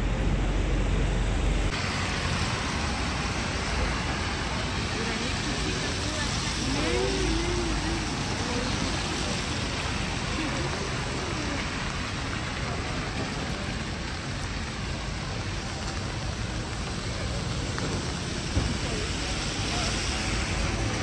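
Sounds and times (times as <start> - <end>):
steady rain hiss: 0.0 - 21.0
faint voices: 3.2 - 21.0.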